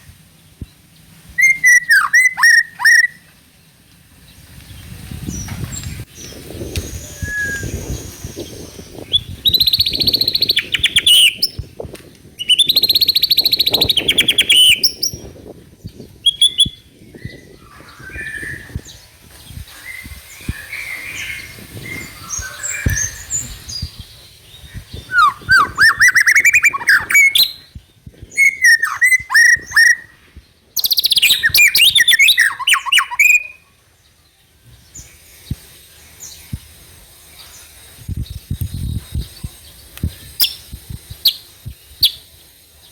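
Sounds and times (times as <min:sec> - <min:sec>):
soft bird calls: 0:00.0 - 0:11.8, 0:12.4 - 0:38.5
bird singing chattering whistles: 0:01.4 - 0:03.3, 0:05.3 - 0:11.7, 0:12.4 - 0:30.2, 0:30.8 - 0:33.6, 0:37.4 - 0:42.9.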